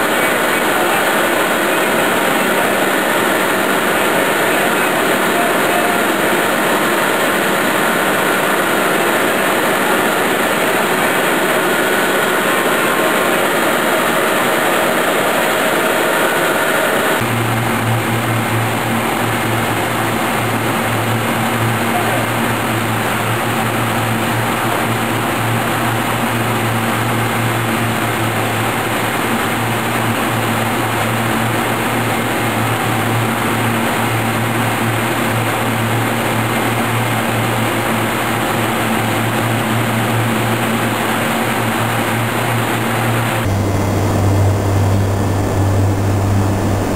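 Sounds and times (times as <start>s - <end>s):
low machine hum: 0.0s - 46.9s.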